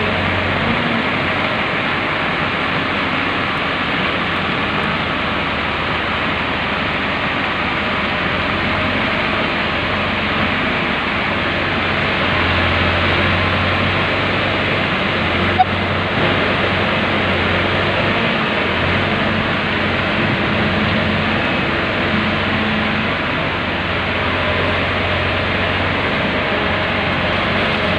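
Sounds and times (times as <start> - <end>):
excavator diesel engines running: 0.0 - 27.9.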